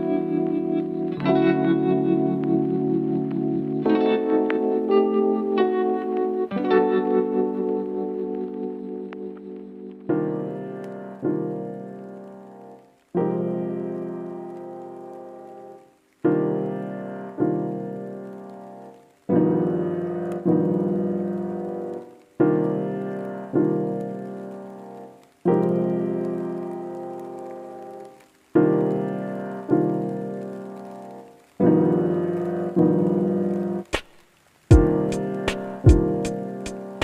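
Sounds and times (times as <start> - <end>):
slow piano chords: 0.0 - 34.0, 34.7 - 37.0.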